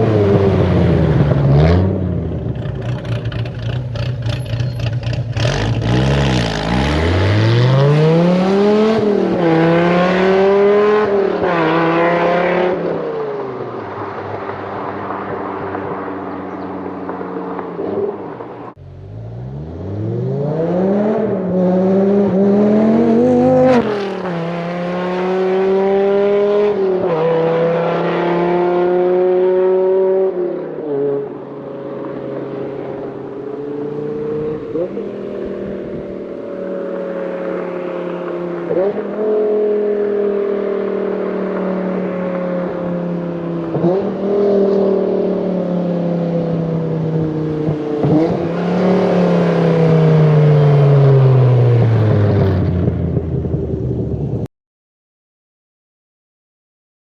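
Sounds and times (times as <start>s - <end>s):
car engine accelerating through upshifts: 0.0s - 54.0s.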